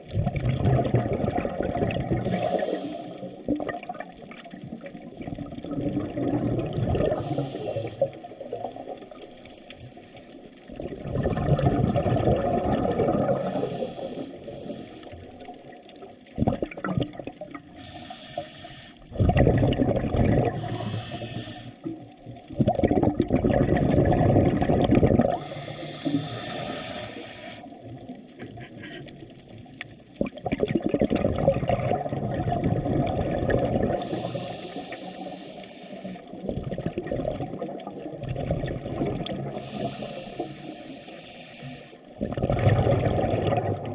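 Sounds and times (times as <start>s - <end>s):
water surging and washing: 0.0s - 43.9s.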